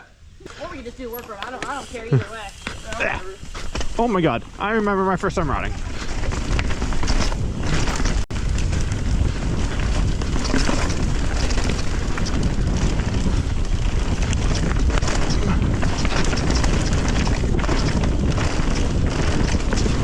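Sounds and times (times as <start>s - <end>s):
bike tyre noise: 0.0s - 20.0s
wind rumbling on microphone: 0.0s - 20.0s
bike rattling and clicking: 0.5s - 20.0s.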